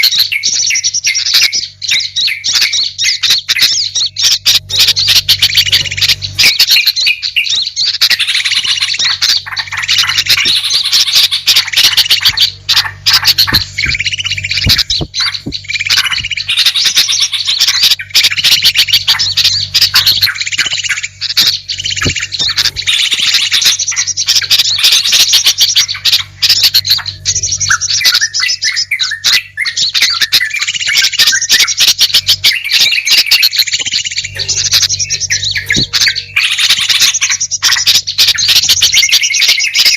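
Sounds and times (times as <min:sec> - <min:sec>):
many small birds chirping: 0:00.0 - 0:39.9
rapid clicking bird calls: 0:00.0 - 0:39.9.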